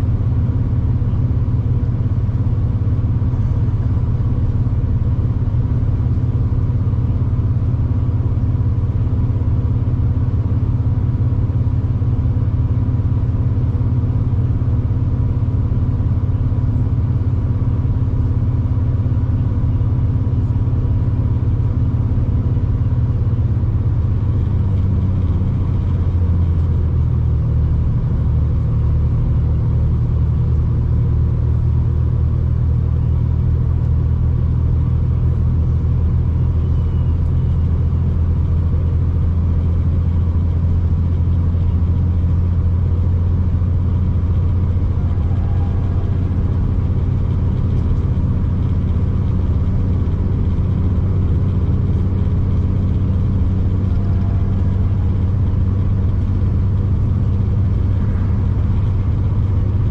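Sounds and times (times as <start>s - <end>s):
train engine drone inside carriage: 0.0s - 59.9s.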